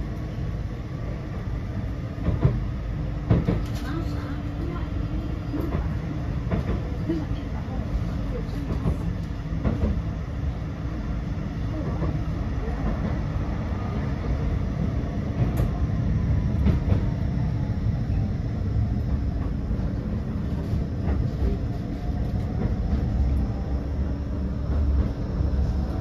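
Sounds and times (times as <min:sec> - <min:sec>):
tram wheels rumbling on rail: 0:00.0 - 0:26.0.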